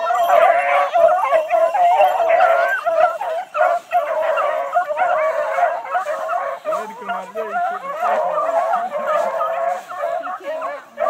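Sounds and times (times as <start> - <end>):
hounds baying together: 0.0 - 11.0.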